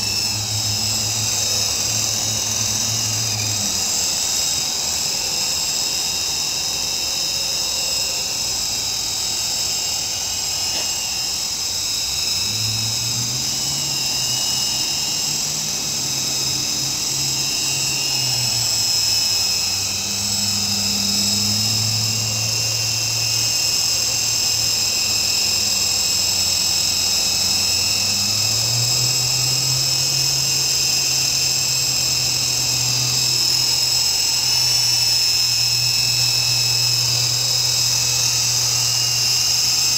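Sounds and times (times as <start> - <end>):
helicopter motor whine: 0.0 - 39.9
rotor hum: 0.0 - 39.9.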